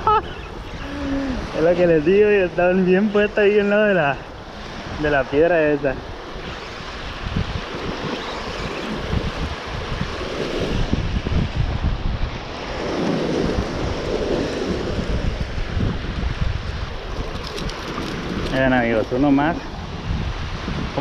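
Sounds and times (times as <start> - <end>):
surf washing against rocks: 0.0 - 21.0
wind buffeting microphone: 0.0 - 21.0.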